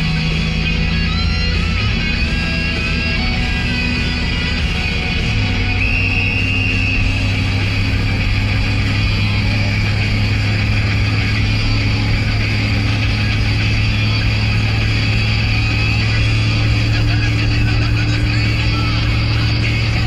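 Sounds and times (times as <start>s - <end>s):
road noise: 0.0s - 20.0s
vehicle engine hum: 0.0s - 20.0s.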